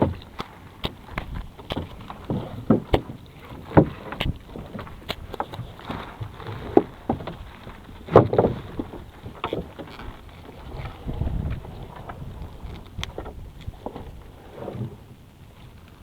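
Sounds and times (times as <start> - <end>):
knocks and clatter on a boat: 0.0 - 16.0.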